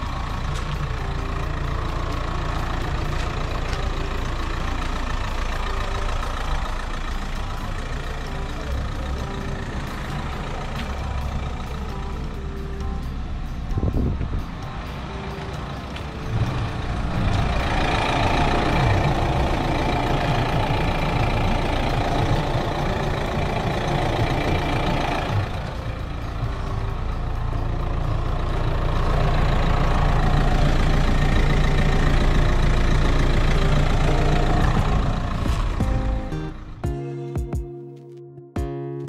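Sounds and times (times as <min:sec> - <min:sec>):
diesel engine droning: 0:00.0 - 0:37.4.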